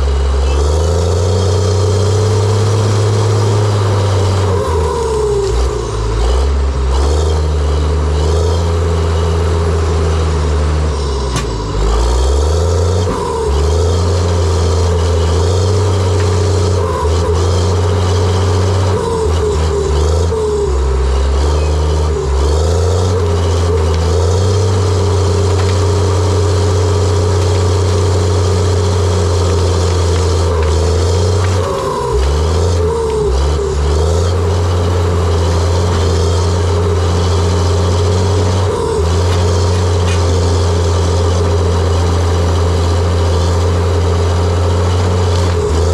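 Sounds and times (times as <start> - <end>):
dozer diesel engine running: 0.0 - 45.9.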